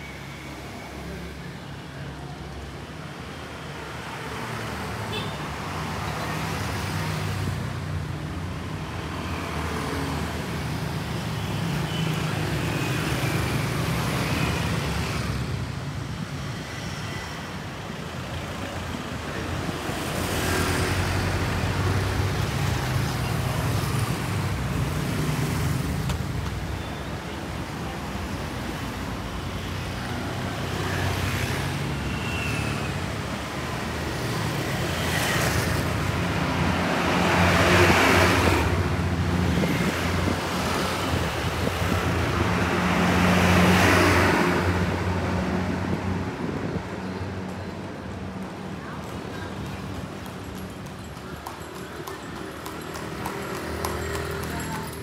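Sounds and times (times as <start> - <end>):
traffic hum: 0.0 - 55.0
vehicles passing: 0.0 - 55.0.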